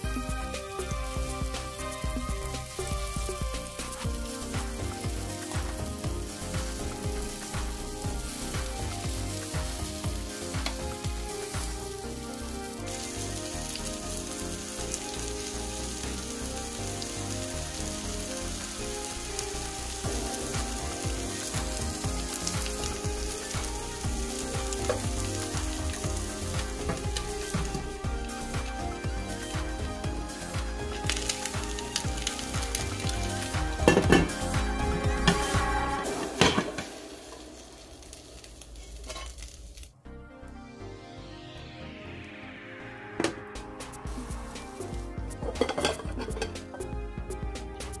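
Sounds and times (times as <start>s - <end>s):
soft background music: 0.0s - 38.1s, 39.9s - 48.0s
vegetables sizzling in a frying pan: 0.0s - 39.9s.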